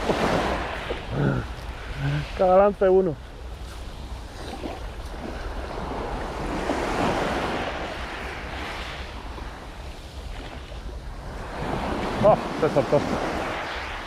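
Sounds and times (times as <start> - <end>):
low wind rumble on microphone: 0.0 - 14.0
sea waves washing on shore: 0.0 - 14.0.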